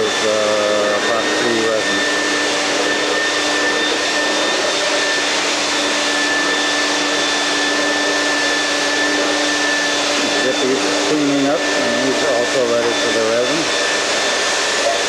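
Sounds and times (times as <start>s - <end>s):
shop vacuum whining: 0.0s - 15.0s.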